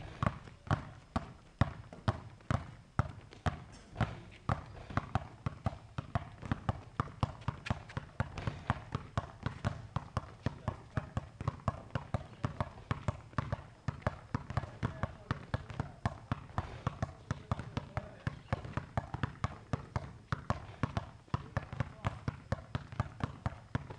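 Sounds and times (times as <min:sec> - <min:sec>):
basketballs bouncing on concrete: 0:00.0 - 0:23.9.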